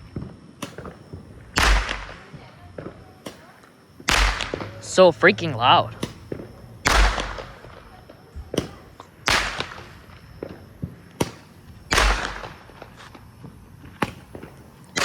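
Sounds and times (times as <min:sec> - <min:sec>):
fireworks loud bangs: 0:00.0 - 0:15.0
fireworks sharp cracks: 0:00.0 - 0:15.0.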